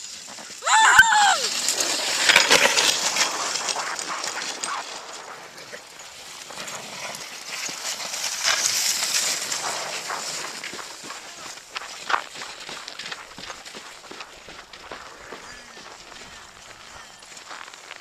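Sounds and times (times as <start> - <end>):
sled crunching on snow: 0.0 - 18.0
running paws and footsteps: 1.4 - 18.0.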